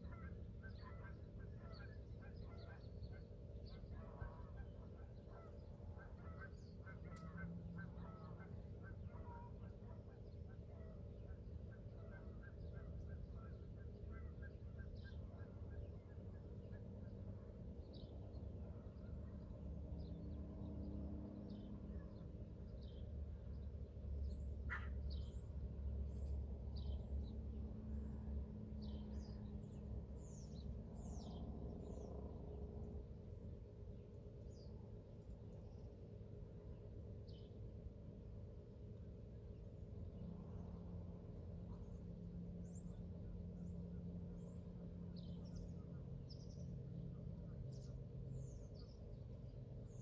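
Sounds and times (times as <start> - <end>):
small birds chirping: 0.0 - 20.4, 21.3 - 32.1, 39.5 - 50.0
steady low rumble: 0.0 - 50.0.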